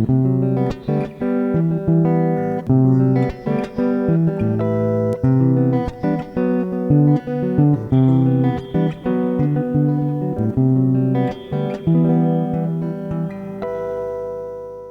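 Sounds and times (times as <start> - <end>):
guitar plucked notes: 0.0 - 14.9.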